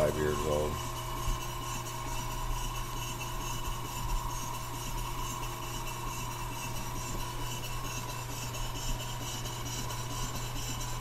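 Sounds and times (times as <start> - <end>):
model steam engine running: 0.0 - 11.0.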